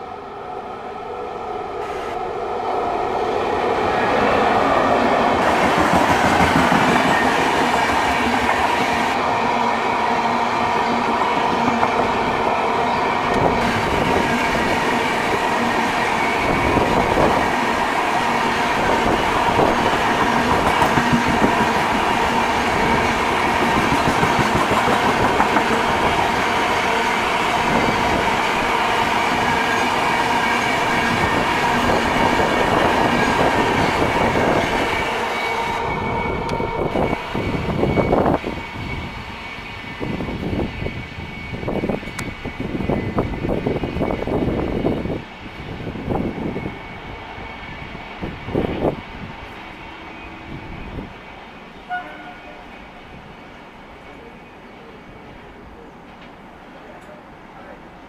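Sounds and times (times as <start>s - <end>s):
electric locomotive passing: 0.0s - 58.0s.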